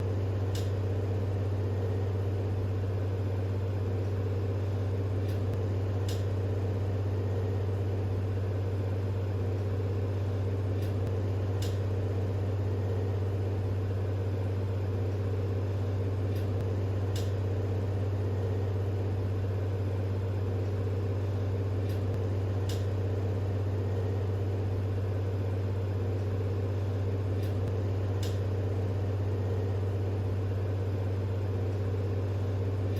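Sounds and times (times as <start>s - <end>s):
machine humming: 0.0s - 32.9s.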